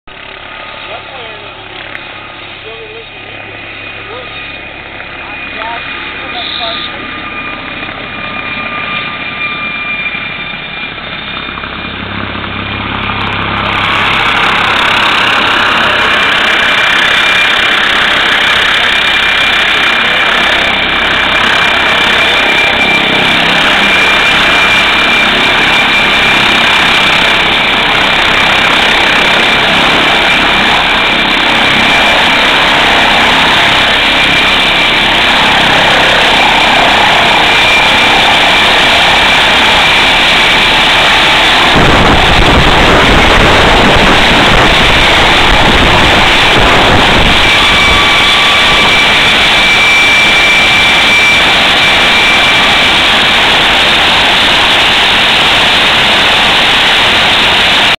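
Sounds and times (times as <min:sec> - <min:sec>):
helicopter turbine and rotor noise: 0:00.1 - 0:57.9.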